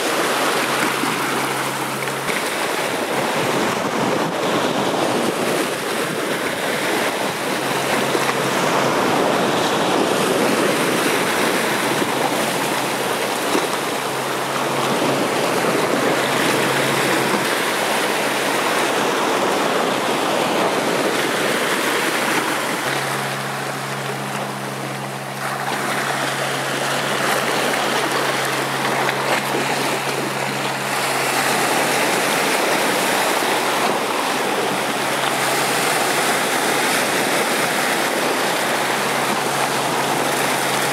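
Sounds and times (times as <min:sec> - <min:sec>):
surf washing over rocks: 0:00.0 - 0:40.9.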